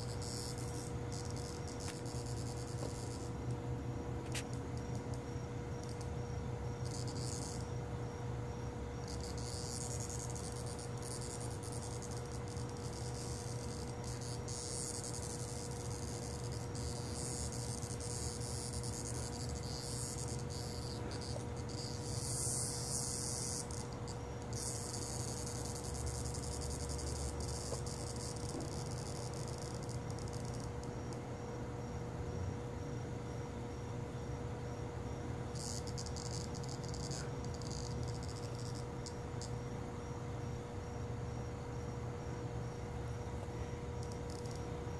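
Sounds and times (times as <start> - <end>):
insects buzzing high-pitched: 0.0 - 44.9
low steady hum: 0.0 - 44.9.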